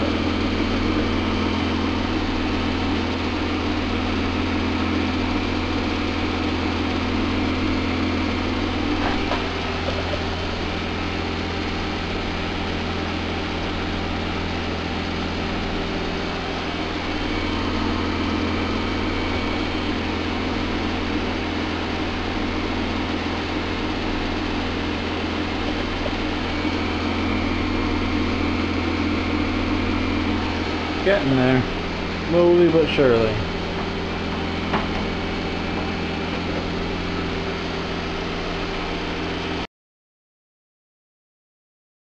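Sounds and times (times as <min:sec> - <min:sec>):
car engine idling: 0:00.0 - 0:39.6.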